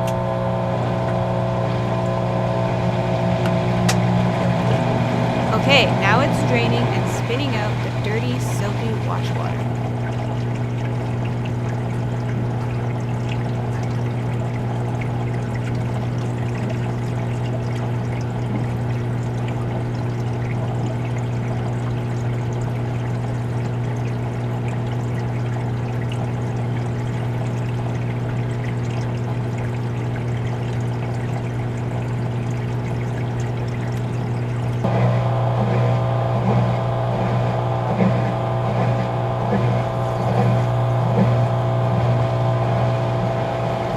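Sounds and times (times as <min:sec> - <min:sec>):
drain pump humming: 0:00.0 - 0:43.9.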